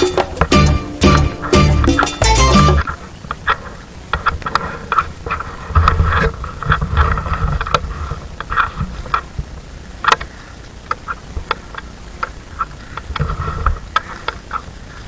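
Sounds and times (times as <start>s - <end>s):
crackles and clicks: 0.0s - 15.0s.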